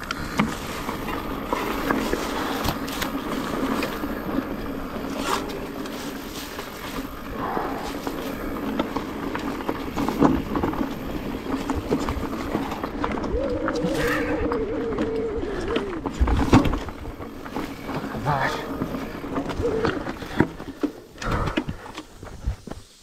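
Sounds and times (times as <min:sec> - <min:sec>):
bike rattling and knocking: 0:00.0 - 0:22.6
bike tyres rumbling on stones: 0:00.0 - 0:23.0.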